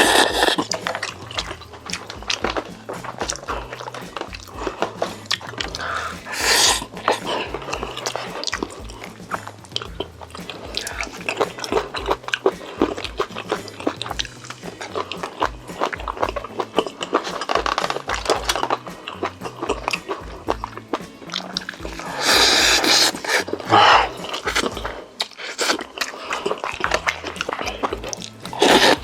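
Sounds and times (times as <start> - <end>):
background music with bass line: 0.0 - 25.1, 26.5 - 29.0.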